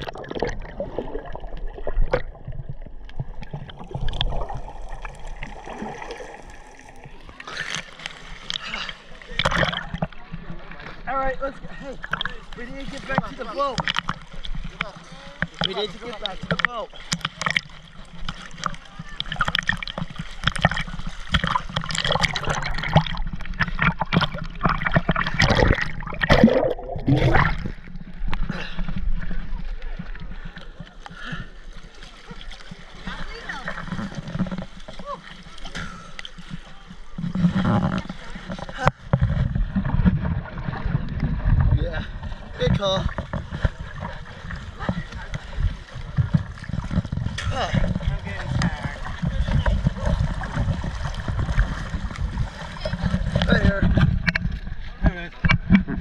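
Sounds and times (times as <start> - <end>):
low underwater rumble: 0.0 - 56.0
underwater crackles and bubble pops: 0.0 - 56.0
water sloshing and splashing: 0.0 - 56.0.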